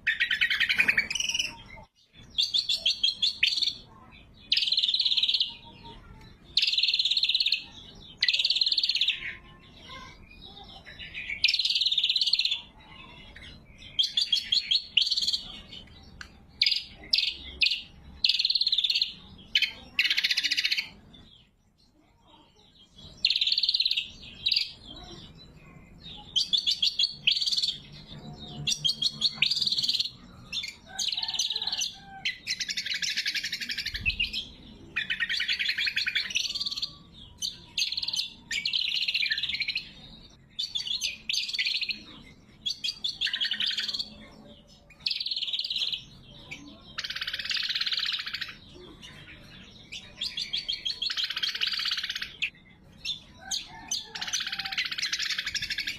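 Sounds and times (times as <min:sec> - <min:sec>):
bird singing chattering phrases: 0:00.0 - 0:55.9.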